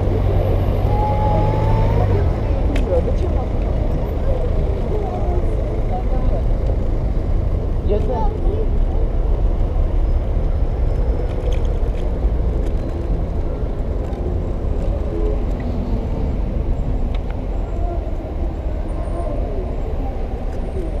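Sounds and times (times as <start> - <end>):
low street rumble: 0.0 - 21.0.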